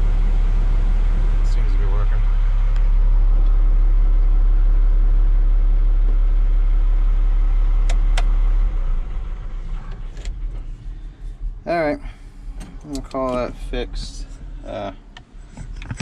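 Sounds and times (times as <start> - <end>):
wheel loader engine rumbling: 0.0 - 16.0.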